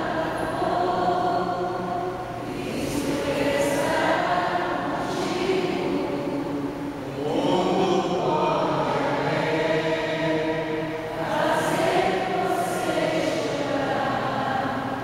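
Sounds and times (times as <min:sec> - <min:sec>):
group singing a slow hymn: 0:00.0 - 0:15.0.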